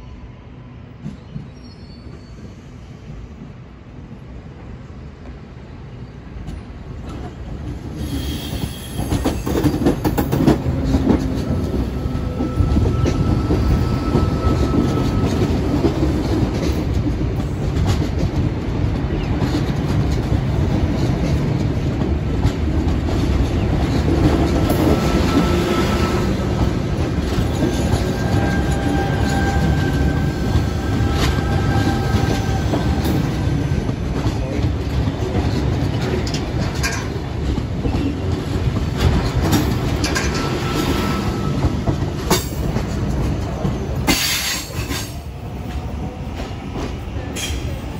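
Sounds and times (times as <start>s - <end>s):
faint high train whine: 0.0s - 19.6s, 20.3s - 47.9s
train wheels clattering over rails: 6.4s - 47.9s.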